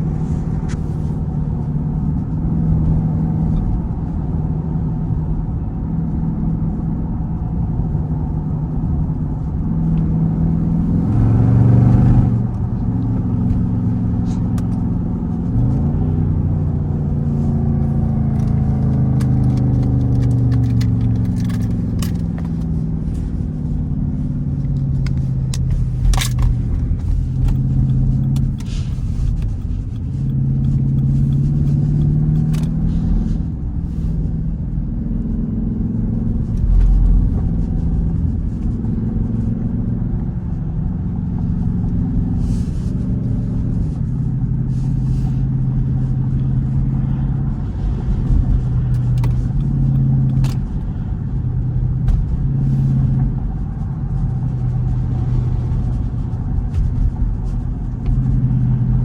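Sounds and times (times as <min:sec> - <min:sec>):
deep exhaust drone: 0:00.0 - 0:59.0.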